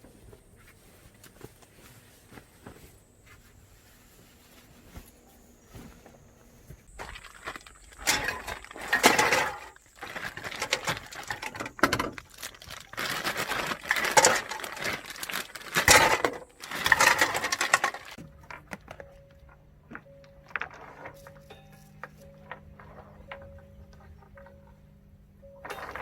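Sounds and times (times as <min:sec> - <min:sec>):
faint steady tones: 0:00.0 - 0:26.0
rustling and crinkling handling: 0:00.0 - 0:26.0.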